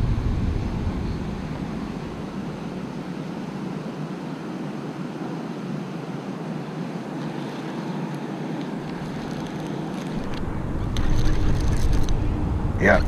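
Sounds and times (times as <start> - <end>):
low rushing outdoor noise: 0.0 - 13.0.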